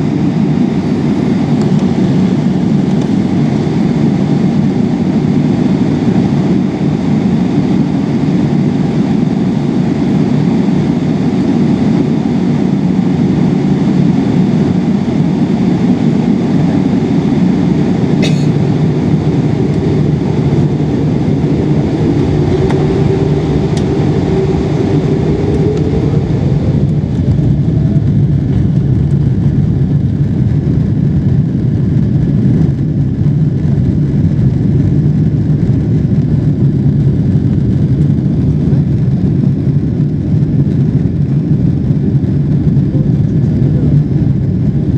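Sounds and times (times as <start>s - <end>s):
jet engine roar in cabin: 0.0s - 44.9s
rising engine whine: 0.0s - 44.9s.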